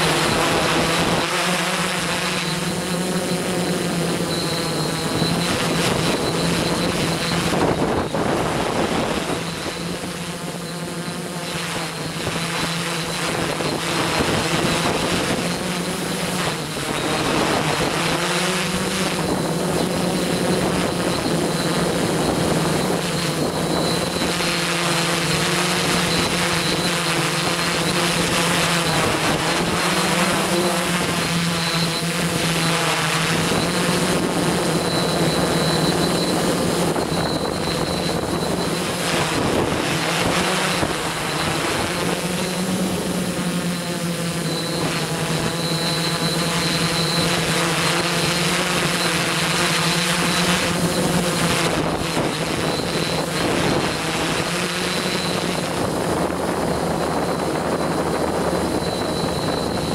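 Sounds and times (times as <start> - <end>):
drone motors humming: 0.0 - 59.9.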